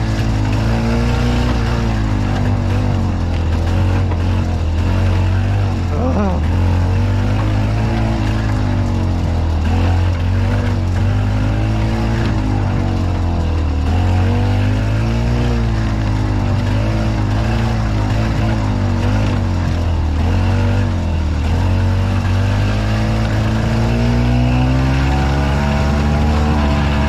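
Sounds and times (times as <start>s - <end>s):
golf cart engine running: 0.0s - 27.0s.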